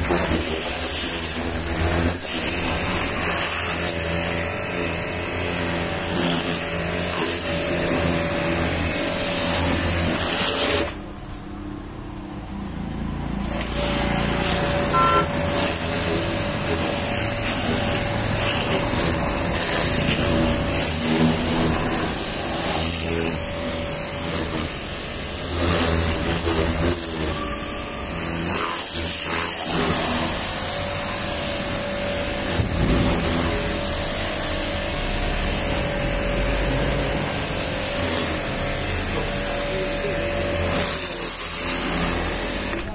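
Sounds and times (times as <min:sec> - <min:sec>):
pressure washer spraying water: 0:00.0 - 0:11.1, 0:12.8 - 0:42.9.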